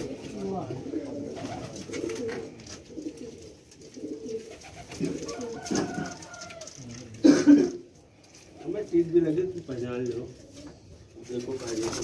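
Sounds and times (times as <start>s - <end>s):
pigeons cooing: 0.0s - 9.4s, 10.2s - 12.0s.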